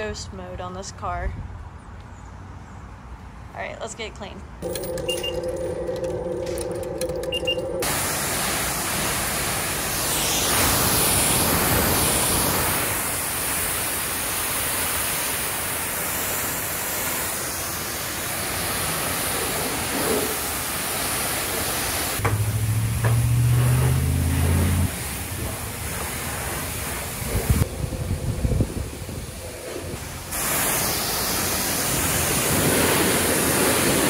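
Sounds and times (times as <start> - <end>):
pressure washer spraying water: 4.6 - 34.0.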